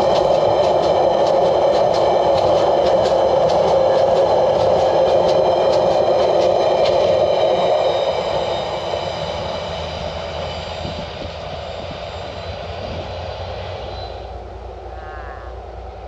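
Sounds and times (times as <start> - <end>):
freight train rolling: 0.0 - 16.0.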